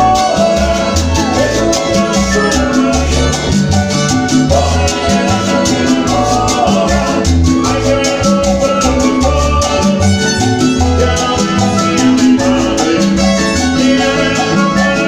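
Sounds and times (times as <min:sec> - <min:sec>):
latin dance band playing: 0:00.0 - 0:15.0
person singing into microphone: 0:00.0 - 0:15.0.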